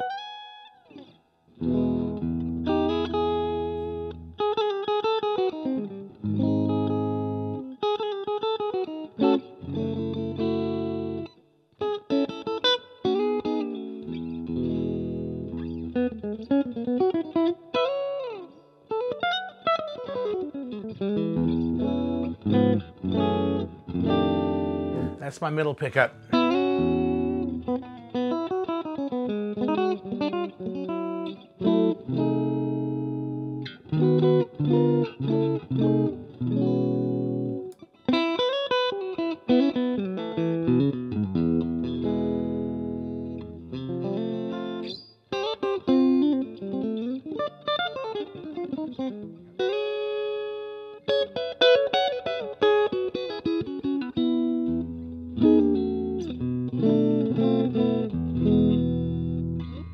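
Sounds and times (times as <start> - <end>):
clean electric guitar: 0.0 - 59.9.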